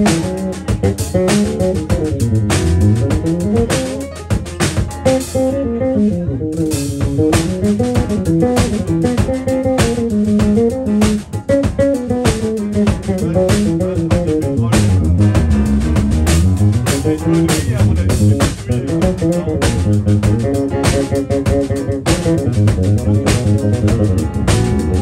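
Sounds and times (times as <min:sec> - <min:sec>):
drum kit groove: 0:00.0 - 0:25.0
electric bass guitar: 0:00.0 - 0:25.0.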